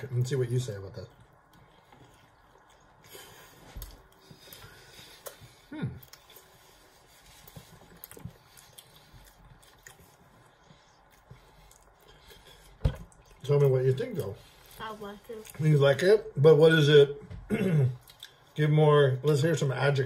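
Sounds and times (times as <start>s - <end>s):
people chewing: 0.0s - 16.4s, 17.2s - 20.0s.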